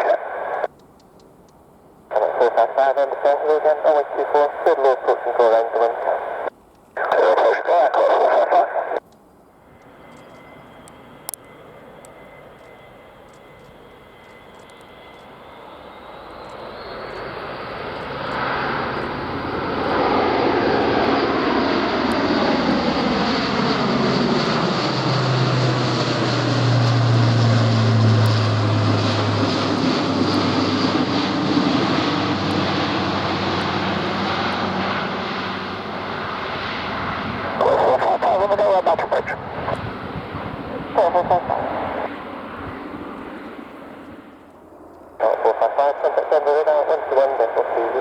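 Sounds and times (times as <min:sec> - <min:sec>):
low propeller hum: 0:00.0 - 0:48.0
turboprop aircraft engines: 0:00.0 - 0:48.0.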